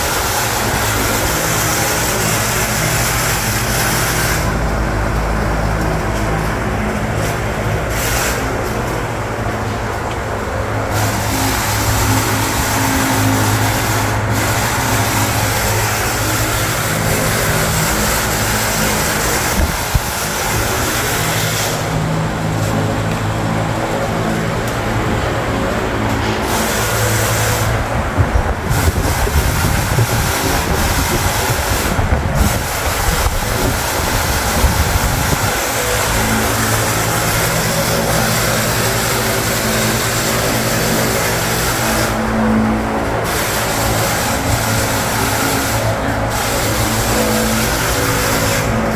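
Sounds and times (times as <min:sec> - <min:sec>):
wall fan running: 0:00.0 - 0:48.9.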